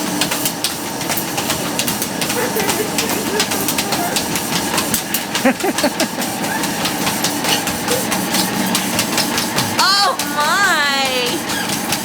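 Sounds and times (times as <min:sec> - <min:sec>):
treadmill motor humming: 0:00.0 - 0:12.0
dog paws clicking on belt: 0:00.1 - 0:12.0.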